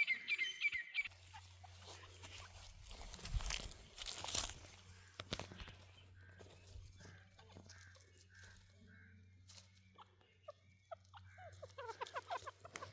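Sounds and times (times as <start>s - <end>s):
partridges calling: 0.0s - 12.9s.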